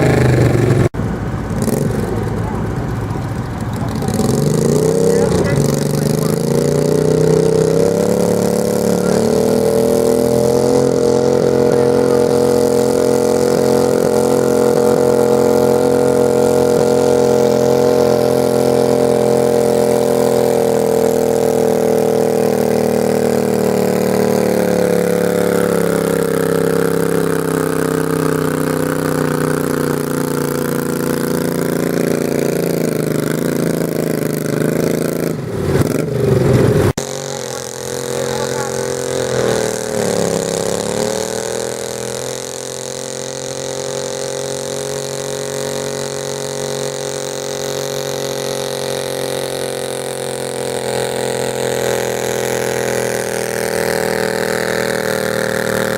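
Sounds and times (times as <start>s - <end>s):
garden tractor engine under load: 0.0s - 55.9s.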